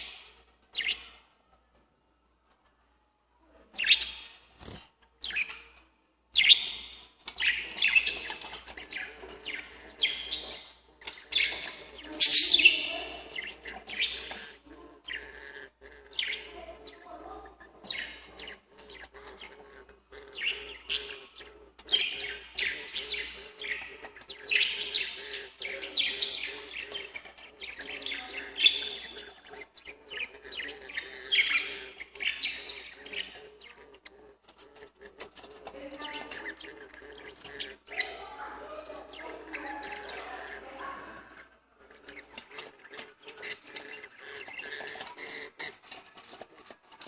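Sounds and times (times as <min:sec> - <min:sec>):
lovebirds chirping: 0:00.0 - 0:01.8, 0:03.4 - 0:47.0.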